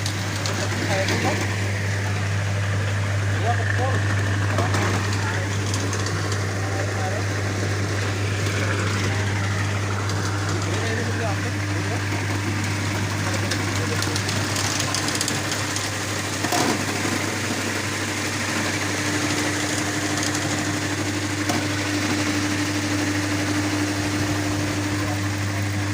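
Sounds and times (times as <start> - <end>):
machine humming: 0.0 - 25.9.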